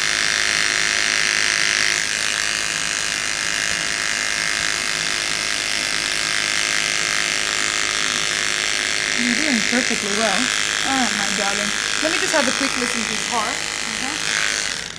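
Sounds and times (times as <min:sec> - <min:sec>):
electric hair clippers buzzing: 0:00.0 - 0:14.9.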